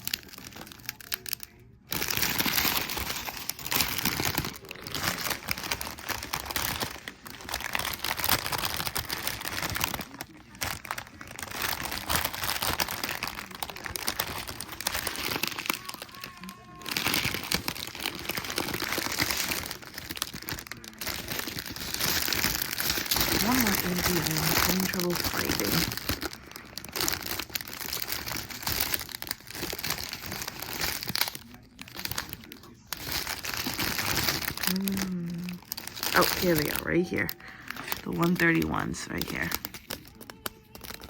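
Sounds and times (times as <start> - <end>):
plastic bags crinkling: 0.0 - 41.0.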